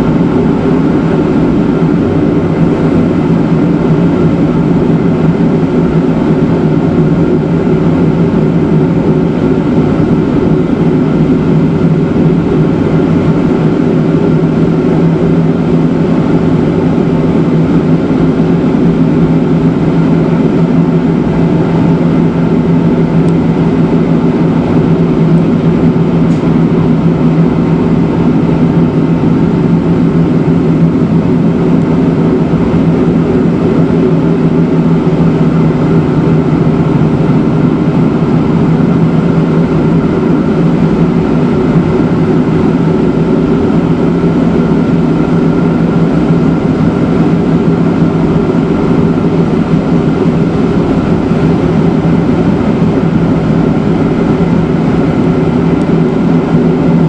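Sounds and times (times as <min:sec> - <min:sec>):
rack railway train humming: 0:00.0 - 0:57.0.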